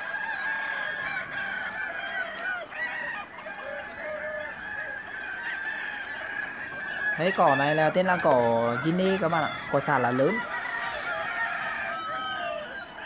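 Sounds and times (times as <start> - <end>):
chickens clucking: 0.0 - 13.0
roosters crowing: 0.0 - 13.0.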